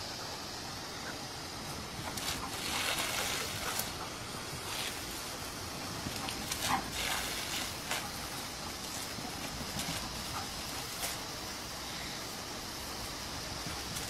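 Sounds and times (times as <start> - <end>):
garden hose spraying water: 0.0 - 14.0.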